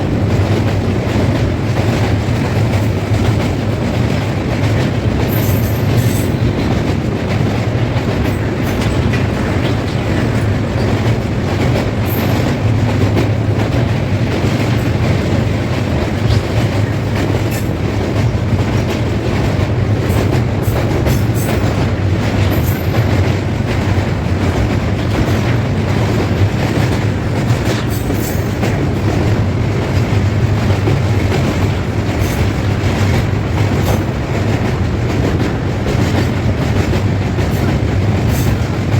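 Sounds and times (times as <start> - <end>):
train rumbling on rails: 0.0 - 38.9
wheels clicking over rail joints: 0.2 - 38.9.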